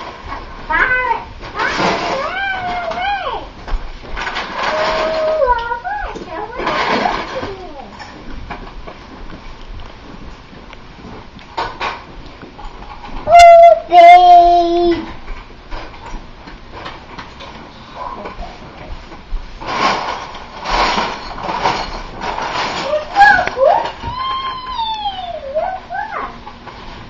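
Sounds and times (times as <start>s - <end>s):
faint household clatter: 0.0s - 27.0s.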